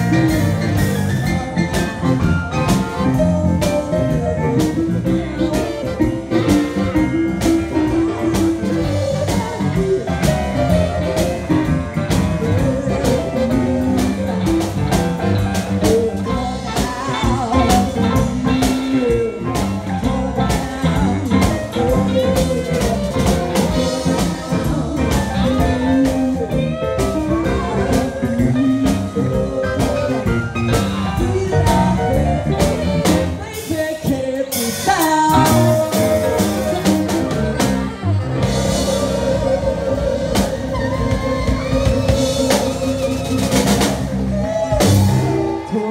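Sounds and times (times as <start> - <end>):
drum kit: 0.0 - 45.9
electric guitar: 0.0 - 45.9
woman singing blues: 0.0 - 45.9.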